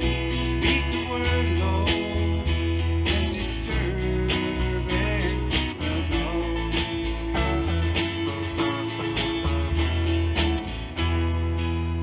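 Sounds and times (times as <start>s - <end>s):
acoustic guitar strumming: 0.0s - 12.0s
bass notes: 0.0s - 12.0s.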